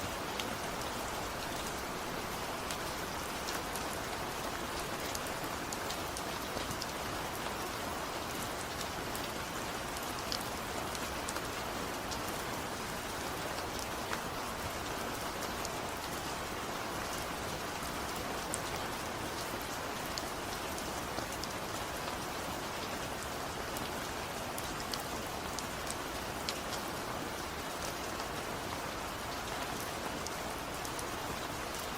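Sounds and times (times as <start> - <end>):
steady rain hiss: 0.0 - 31.9
raindrops ticking on surface: 0.1 - 31.9.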